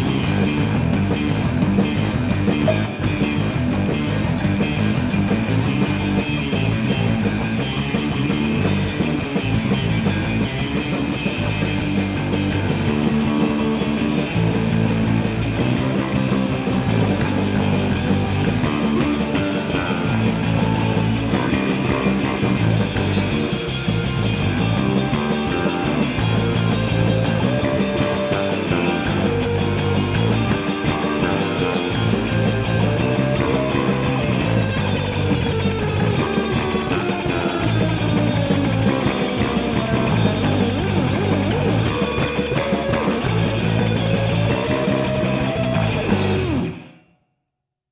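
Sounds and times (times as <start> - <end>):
repeating bass line: 0.0 - 46.9
electric guitar lines: 0.0 - 47.1.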